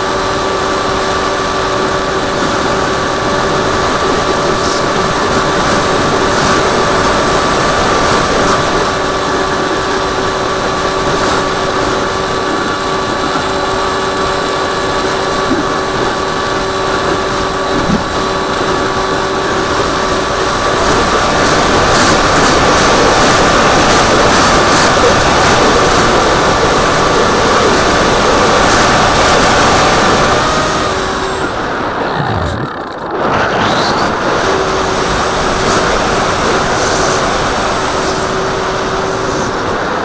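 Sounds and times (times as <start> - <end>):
electric motor and propeller whine: 0.0 - 40.0
rushing wind: 0.0 - 40.0.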